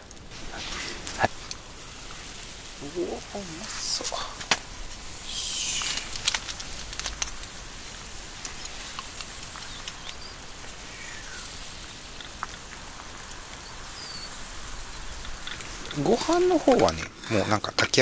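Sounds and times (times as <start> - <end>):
embers crackling: 0.0 - 18.0
pot bubbling and hissing: 0.0 - 18.0.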